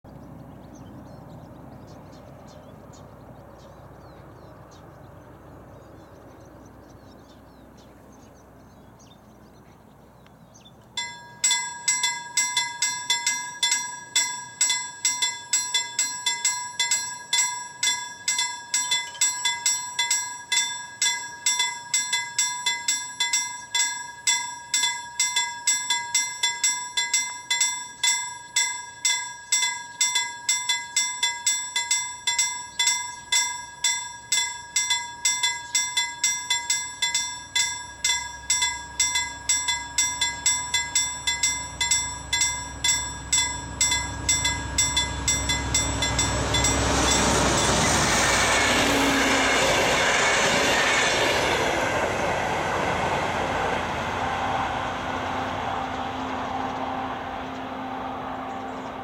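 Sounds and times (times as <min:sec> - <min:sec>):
level crossing warning bell: 0:11.0 - 0:59.0.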